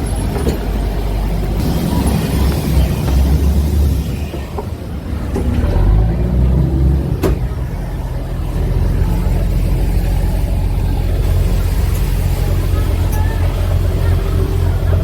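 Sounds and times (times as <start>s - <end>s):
ferry engine humming: 0.0s - 15.0s.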